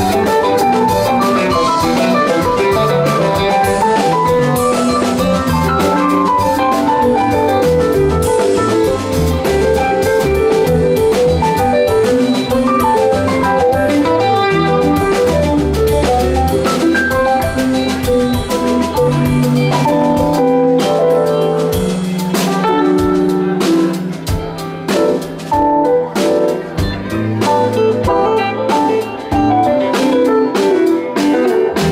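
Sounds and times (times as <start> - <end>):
bass guitar line: 0.0 - 31.9
drum kit: 0.0 - 31.9
electric guitars: 0.0 - 31.9.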